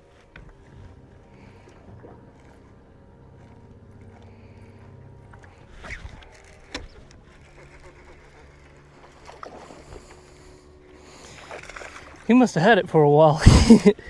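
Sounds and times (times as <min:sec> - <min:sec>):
electric boat motor humming: 0:00.0 - 0:14.0.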